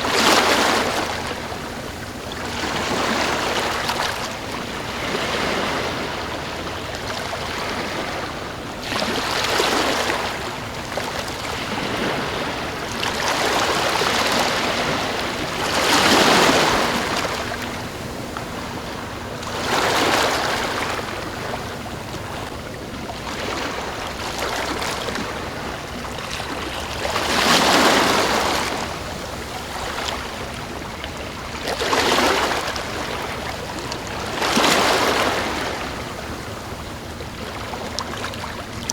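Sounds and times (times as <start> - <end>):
waves washing up a beach: 0.0 - 38.9.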